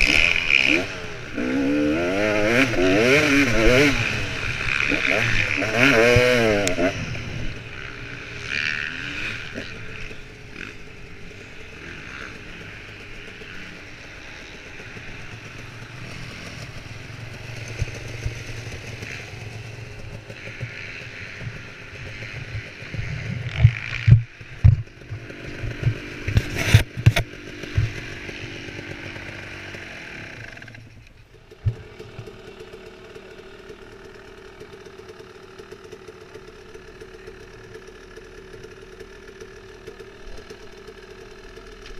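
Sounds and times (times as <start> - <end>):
dirt bike engine at low throttle: 0.0 - 41.9.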